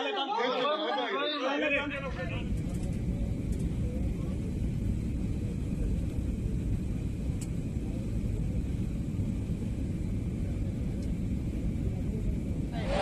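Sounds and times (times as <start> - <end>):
airliner cabin rumble: 1.7 - 13.0.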